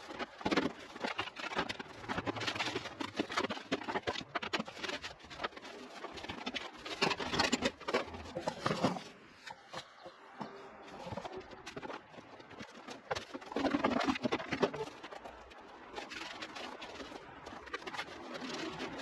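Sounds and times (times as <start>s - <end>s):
tools and junk clattering: 0.0s - 19.0s.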